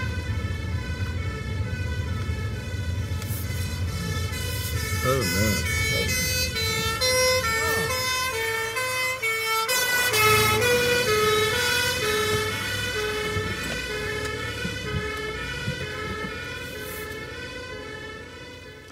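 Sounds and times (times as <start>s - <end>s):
fire engine two-tone siren: 0.0s - 18.9s
vehicle engine rumble: 0.0s - 18.9s.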